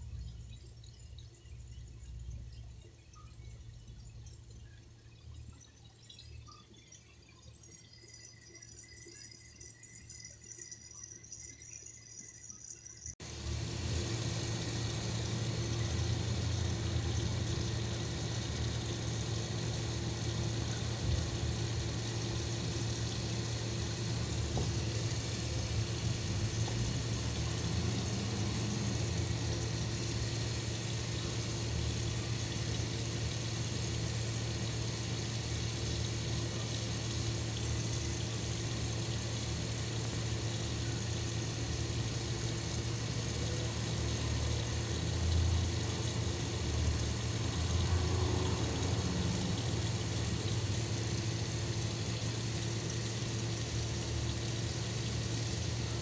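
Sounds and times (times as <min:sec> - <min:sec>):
water running: 0:10.0 - 0:56.0.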